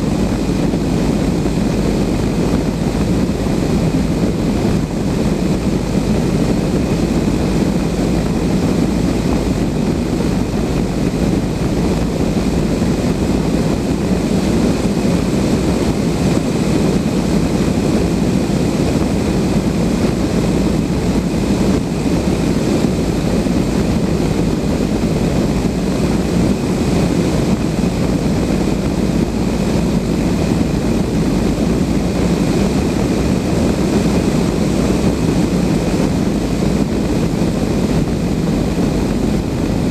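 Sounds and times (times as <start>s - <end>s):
airflow rushing in cockpit: 0.0s - 39.9s.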